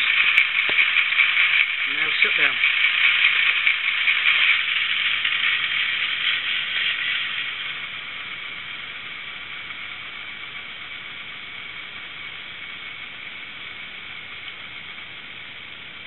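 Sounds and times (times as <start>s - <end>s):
speaker hiss: 0.0s - 16.0s.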